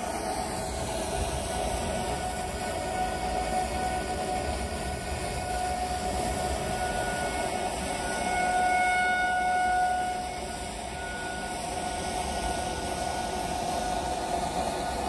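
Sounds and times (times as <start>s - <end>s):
warning siren steady tone: 1.2s - 15.0s.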